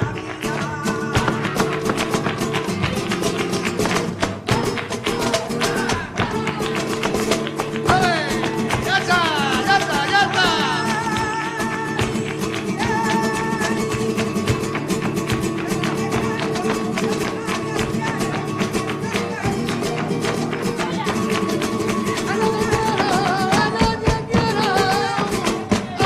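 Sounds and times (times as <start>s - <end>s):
guitar: 0.0s - 26.0s.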